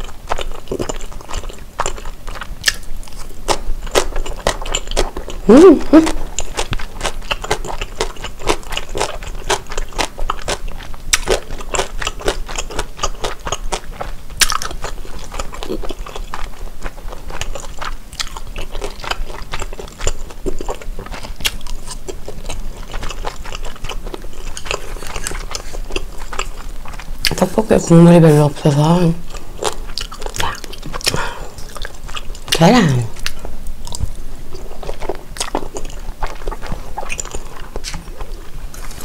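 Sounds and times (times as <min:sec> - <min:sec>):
person chewing food: 0:00.0 - 0:28.5, 0:29.2 - 0:39.0.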